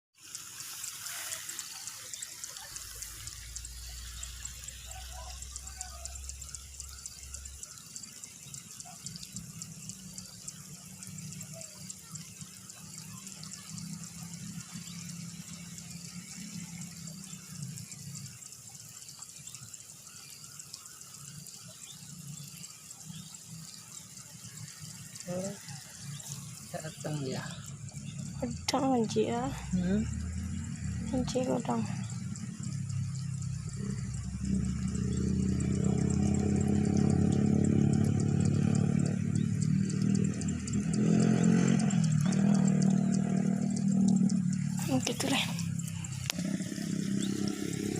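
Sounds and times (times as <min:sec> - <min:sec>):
water trickling: 0:00.1 - 0:47.9
fast high-pitched ticking: 0:00.2 - 0:47.9.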